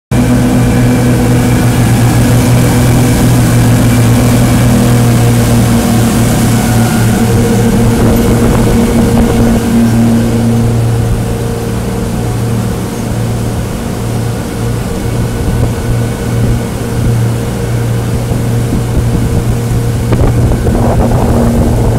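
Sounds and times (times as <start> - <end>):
motorboat engine drone: 0.1 - 21.9
wind and water rushing: 0.1 - 21.9.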